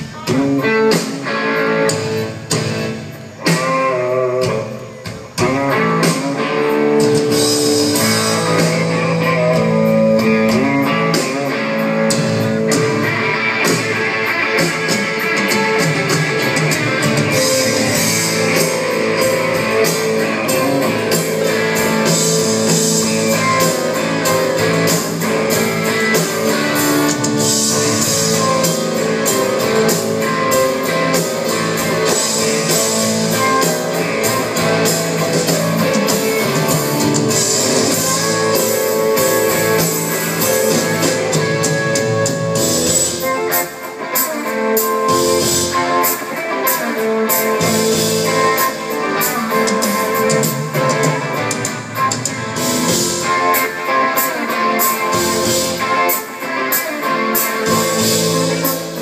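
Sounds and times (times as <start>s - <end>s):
drum kit: 0.0s - 59.0s
electric guitar: 0.0s - 59.0s
live rock band playing: 0.0s - 59.0s.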